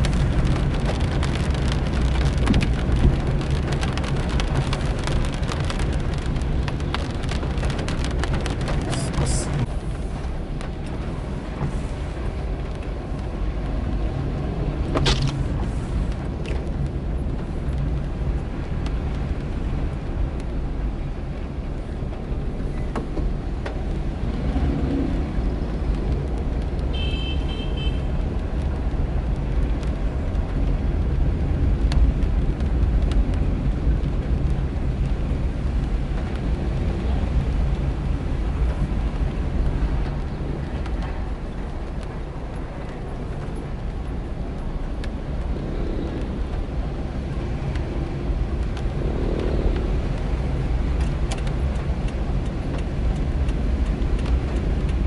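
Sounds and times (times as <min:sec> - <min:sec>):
car engine hum: 0:00.0 - 0:55.0
tyres on wet road: 0:00.0 - 0:55.0.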